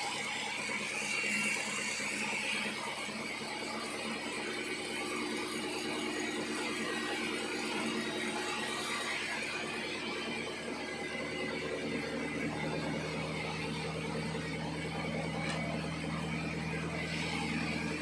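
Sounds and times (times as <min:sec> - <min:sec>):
sawmill machinery sawing logs: 0:00.0 - 0:18.0.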